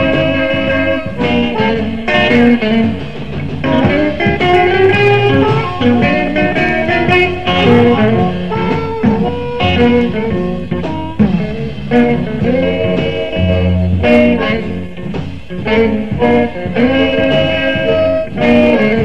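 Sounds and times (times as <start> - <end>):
bass: 0.0 - 19.0
drums: 0.0 - 19.0
lead electric guitar: 0.0 - 19.0.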